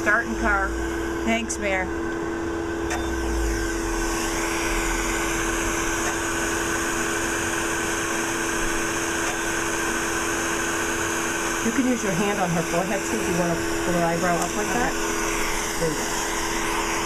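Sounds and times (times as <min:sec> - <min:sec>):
machine hum with low tones: 0:00.0 - 0:17.0.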